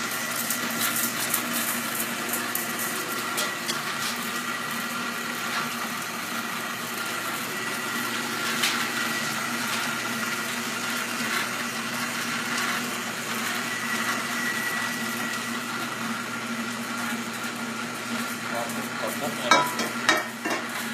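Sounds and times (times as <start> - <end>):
drill press humming and whining: 0.0 - 20.9.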